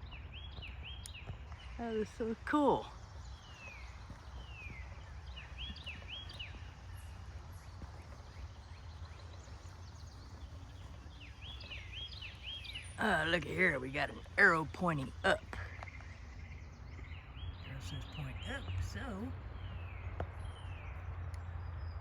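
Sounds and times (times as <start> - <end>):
songbirds calling: 0.0 - 22.0.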